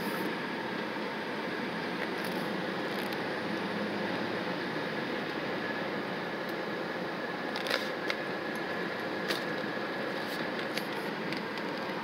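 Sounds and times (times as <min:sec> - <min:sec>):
in-cabin road noise: 0:00.0 - 0:12.0.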